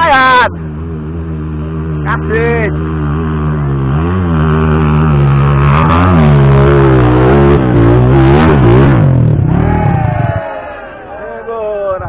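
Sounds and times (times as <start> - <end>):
motorbike engine revving hard: 0.6 - 10.5.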